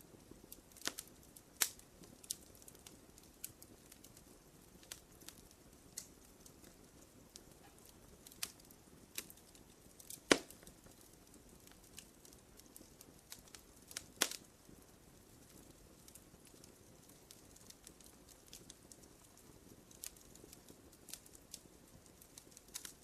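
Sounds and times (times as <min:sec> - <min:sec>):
campfire crackling: 0:00.0 - 0:23.0
faint low hiss: 0:00.0 - 0:23.0.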